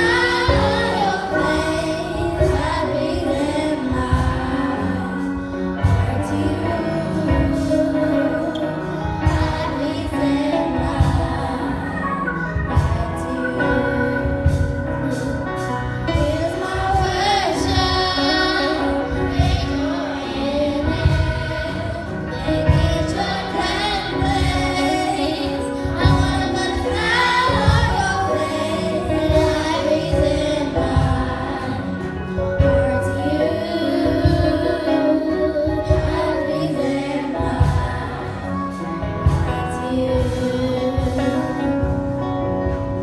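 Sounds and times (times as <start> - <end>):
song with voices singing: 0.0 - 43.0.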